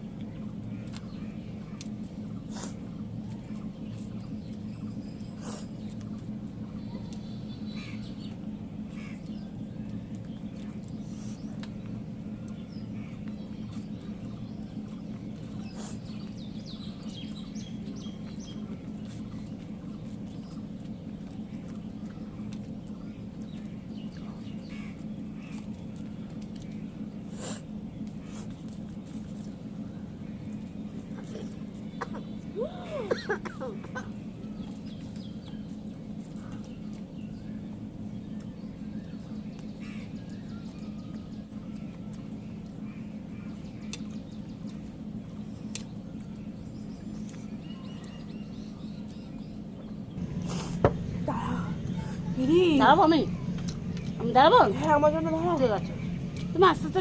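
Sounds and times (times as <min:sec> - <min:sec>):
faint bird calls: 0:00.0 - 0:57.0
low steady hum: 0:00.0 - 0:57.0.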